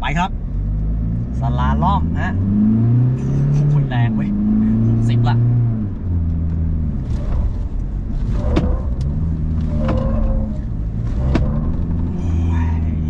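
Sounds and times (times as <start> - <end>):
pickup diesel engine revving: 0.0 - 13.0.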